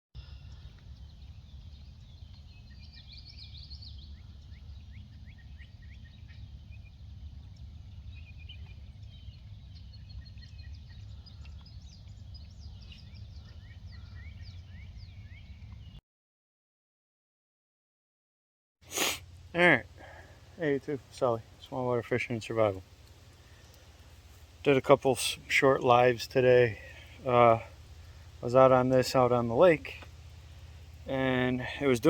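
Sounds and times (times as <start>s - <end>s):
small birds chirping: 0.2s - 16.0s, 18.9s - 32.0s
steady low rumble: 0.3s - 15.8s, 19.3s - 32.0s.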